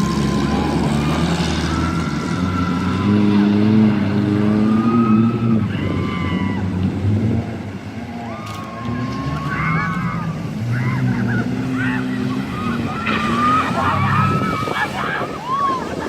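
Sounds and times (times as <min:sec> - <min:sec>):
jeep engine running under load: 0:00.0 - 0:16.0.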